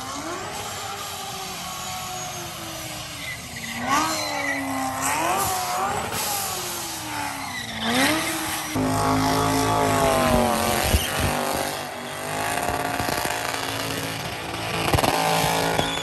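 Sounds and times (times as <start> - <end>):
car engine revving: 0.0 - 16.0
tyres spinning and squealing: 0.1 - 16.0.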